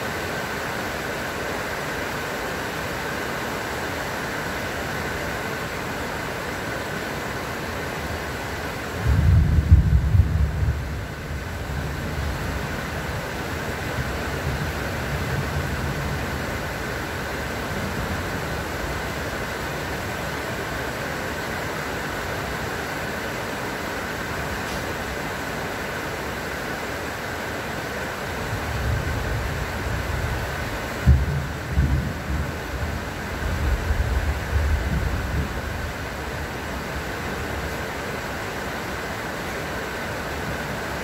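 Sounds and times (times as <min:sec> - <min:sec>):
rain falling on foliage: 0:00.0 - 0:41.0.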